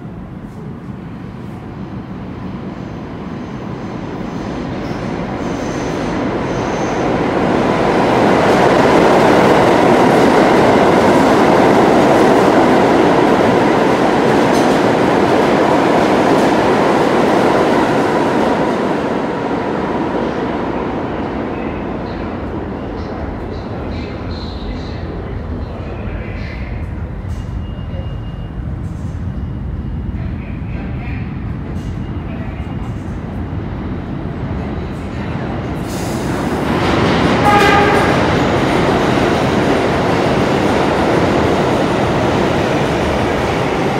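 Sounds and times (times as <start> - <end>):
subway train wheels rumbling: 0.0 - 43.9.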